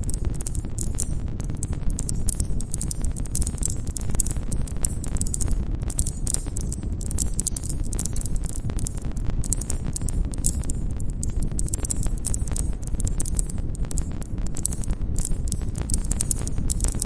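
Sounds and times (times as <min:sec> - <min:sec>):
low rumble of flames: 0:00.0 - 0:17.0.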